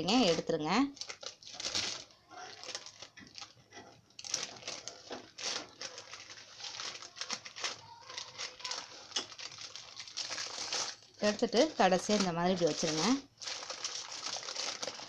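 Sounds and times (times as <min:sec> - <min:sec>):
paper crinkling and rustling: 0:00.0 - 0:15.0.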